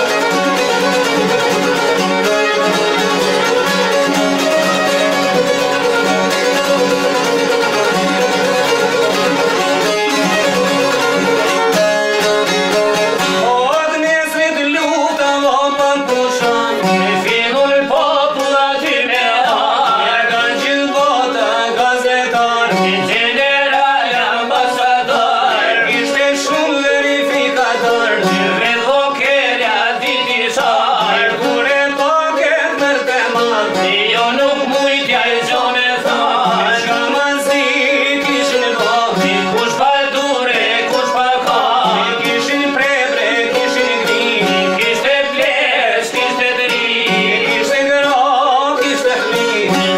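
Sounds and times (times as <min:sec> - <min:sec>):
man singing folk song: 0:00.0 - 0:49.9
plucked lute: 0:00.0 - 0:49.9.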